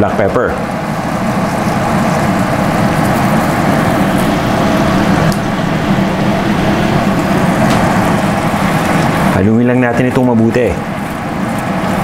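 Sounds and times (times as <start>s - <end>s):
sauce bubbling in a pot: 0.6s - 9.4s, 10.8s - 12.0s.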